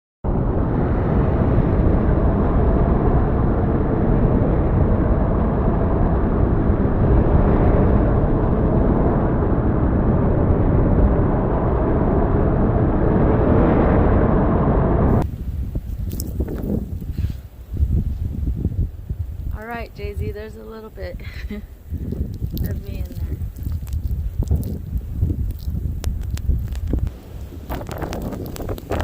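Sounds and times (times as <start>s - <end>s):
wind buffeting microphone: 0.2s - 29.0s.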